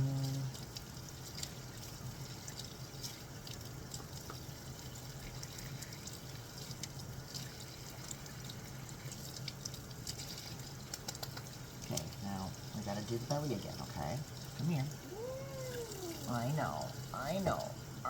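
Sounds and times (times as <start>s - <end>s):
low steady hum: 0.0s - 18.0s
tap water running and splashing: 0.0s - 18.0s
water dripping: 0.0s - 18.0s.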